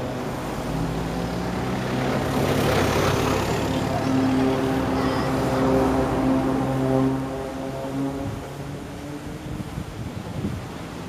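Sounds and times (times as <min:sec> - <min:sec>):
aircraft engine drone: 0:00.0 - 0:11.0
rushing air: 0:00.0 - 0:11.0.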